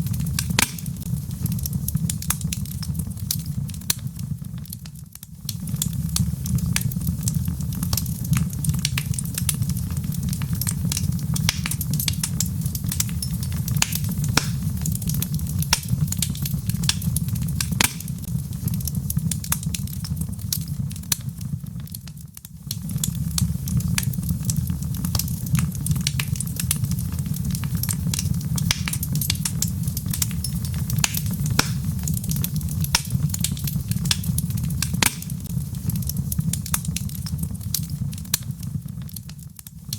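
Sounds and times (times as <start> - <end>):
fire low rumble: 0.0 - 39.9
logs crackling and popping: 0.0 - 39.9.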